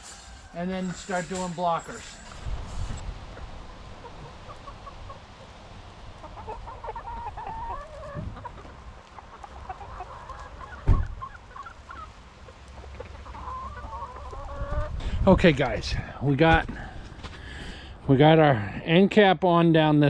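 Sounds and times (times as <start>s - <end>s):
chickens clucking: 0.0s - 16.1s.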